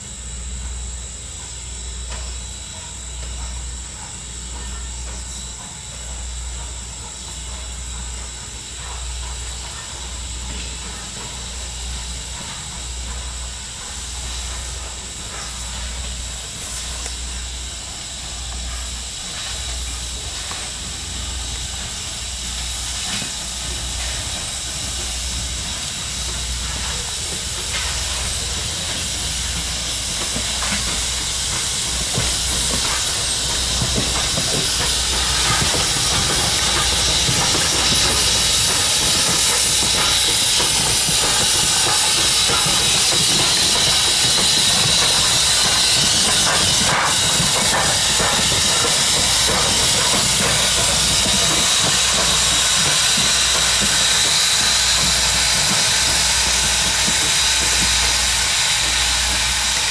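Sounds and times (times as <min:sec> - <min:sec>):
steam locomotive hissing: 0:00.0 - 0:59.9.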